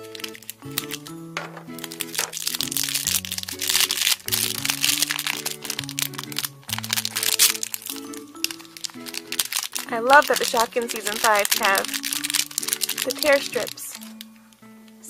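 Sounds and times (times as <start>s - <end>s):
bag tearing open: 0.0s - 14.3s
foil bag crinkling: 0.0s - 14.3s
background music: 0.0s - 15.0s.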